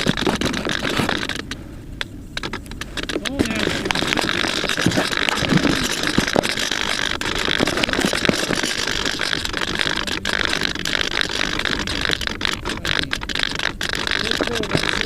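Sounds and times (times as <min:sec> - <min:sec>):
electric motor and propeller whirring: 0:00.0 - 0:15.0.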